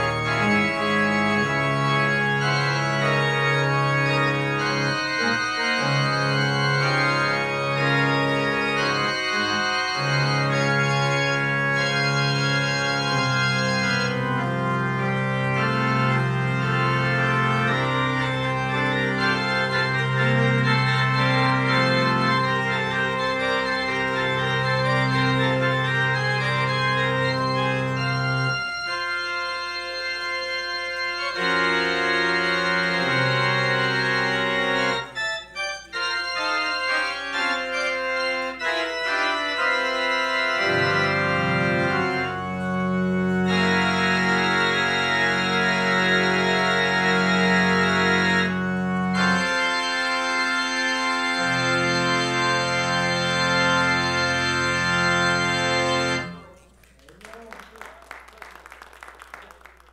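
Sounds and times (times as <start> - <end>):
church organ chords: 0.0 - 56.6.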